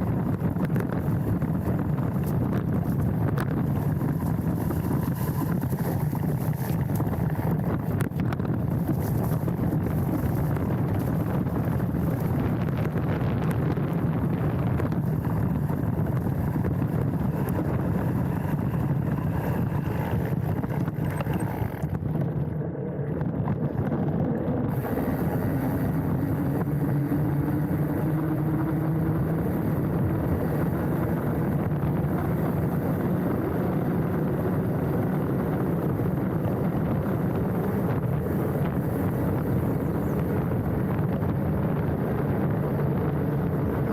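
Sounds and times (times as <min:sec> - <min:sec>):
tyre and trail rumble: 0:00.0 - 0:43.9
wind rush on microphone: 0:00.0 - 0:43.9.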